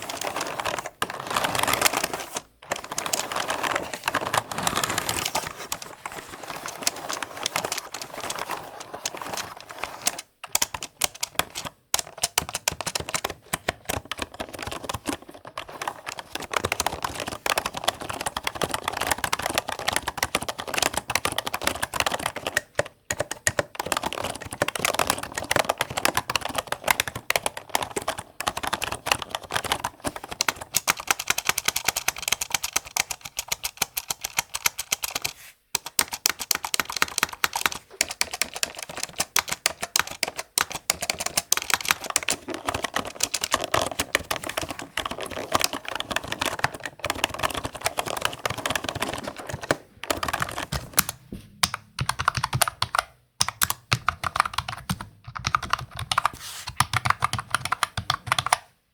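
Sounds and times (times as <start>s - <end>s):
fast typing on keyboard: 0.0s - 58.8s.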